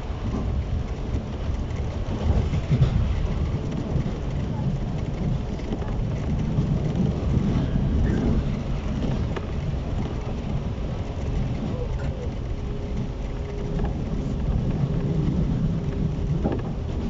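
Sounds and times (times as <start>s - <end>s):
stopped train rumble and hum: 0.0s - 17.0s.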